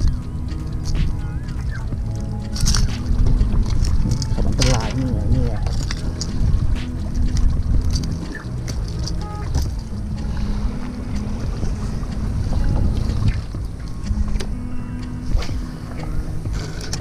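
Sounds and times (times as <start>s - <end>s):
surf washing: 0.0s - 17.0s
wind on microphone: 0.0s - 17.0s.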